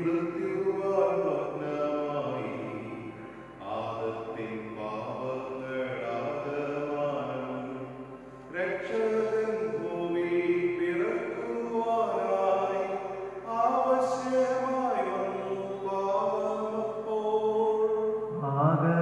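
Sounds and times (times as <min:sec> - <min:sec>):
voice chanting: 0:00.0 - 0:19.0.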